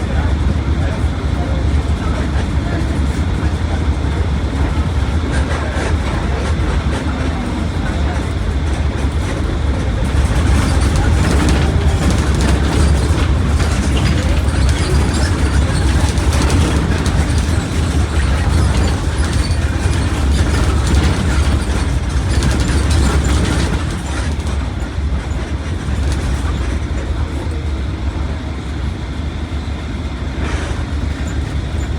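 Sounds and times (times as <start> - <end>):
bus diesel engine drone: 0.0 - 31.9
road and body rumble: 0.0 - 31.9.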